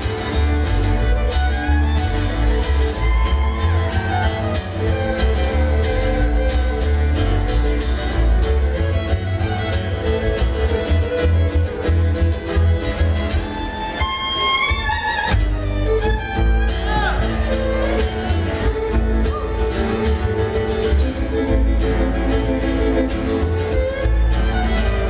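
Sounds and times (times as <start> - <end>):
upright bass: 0.0 - 13.6, 15.3 - 25.0
fiddle: 0.0 - 25.0
strummed acoustic guitar: 0.0 - 25.0.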